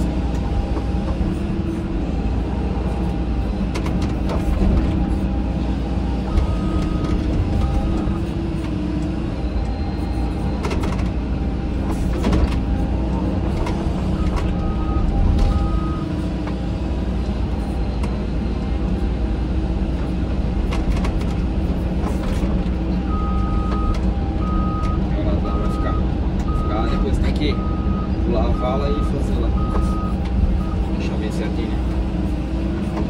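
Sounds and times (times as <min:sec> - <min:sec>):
excavator engine and hydraulics: 0:00.0 - 0:33.0.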